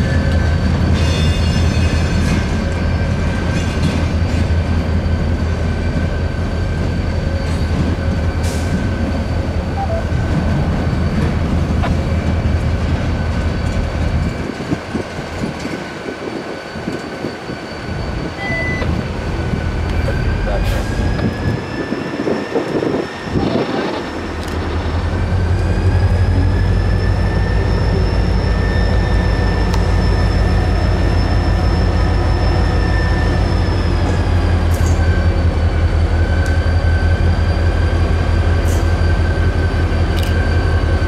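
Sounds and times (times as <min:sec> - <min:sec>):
wheel flanges squealing: 0:00.0 - 0:41.0.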